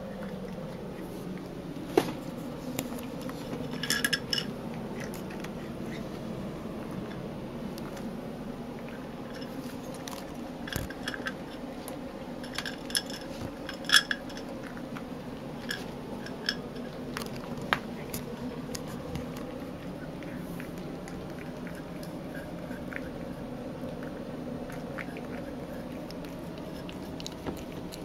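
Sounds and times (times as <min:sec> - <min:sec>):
cats chewing and crunching food: 0:00.0 - 0:28.0
low room hum: 0:00.0 - 0:28.0.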